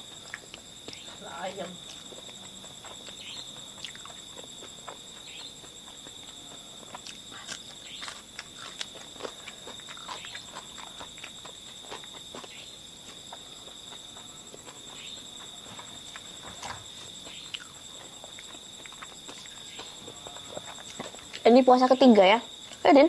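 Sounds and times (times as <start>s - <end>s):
chewing and lip-smacking: 0.0s - 1.2s, 1.8s - 21.5s
night insects droning: 0.0s - 23.0s.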